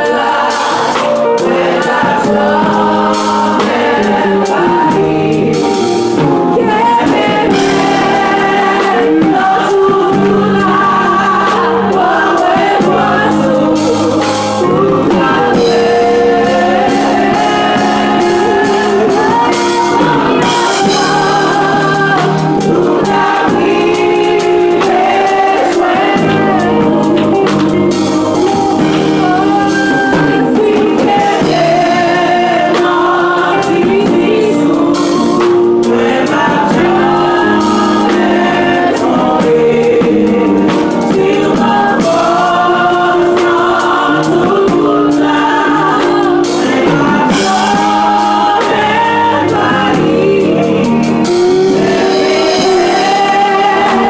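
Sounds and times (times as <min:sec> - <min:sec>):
choir singing: 0:00.0 - 0:54.0
percussion: 0:00.0 - 0:54.0.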